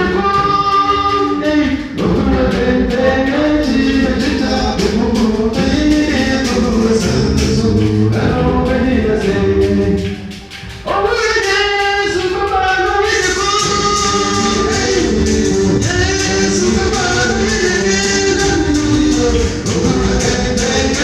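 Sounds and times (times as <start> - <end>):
male vocal group singing: 0.0 - 21.0.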